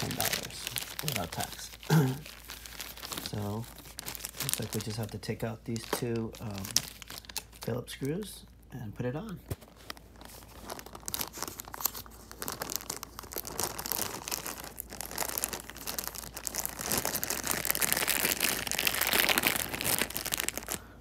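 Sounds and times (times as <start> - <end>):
plastic packaging crinkling: 0.0 - 8.5, 9.1 - 21.0.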